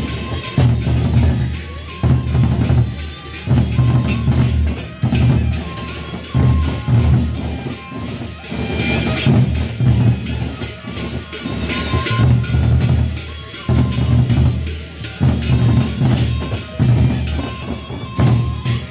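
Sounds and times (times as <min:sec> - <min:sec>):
barrel drums beaten with sticks: 0:00.0 - 0:18.9.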